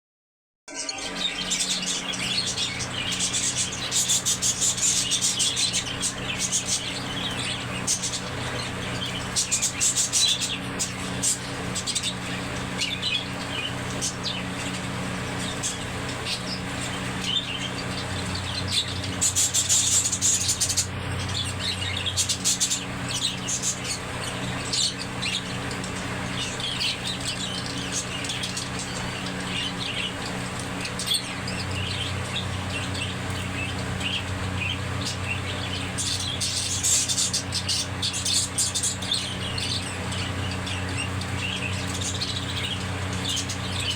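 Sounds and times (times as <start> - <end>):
budgerigars chirping and chattering: 0.7 - 43.9
steady low hum: 0.7 - 43.9.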